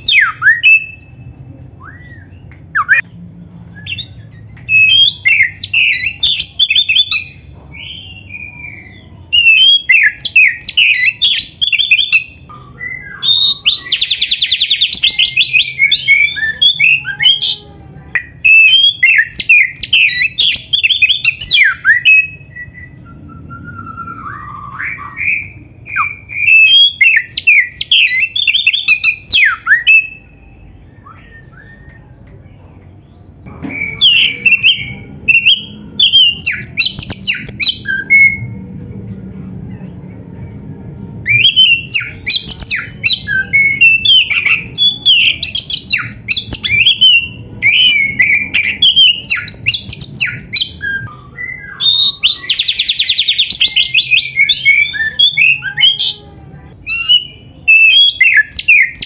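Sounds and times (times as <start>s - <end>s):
bird singing whistles and chatter: 0.0s - 1.2s, 3.7s - 38.6s, 41.1s - 59.0s.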